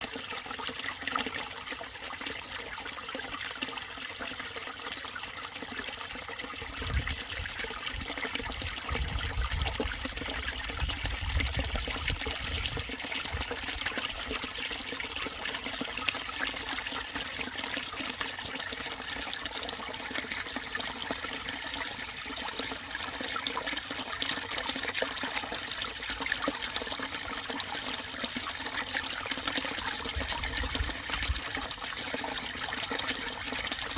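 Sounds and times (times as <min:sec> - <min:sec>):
stream trickling: 0:00.0 - 0:33.9.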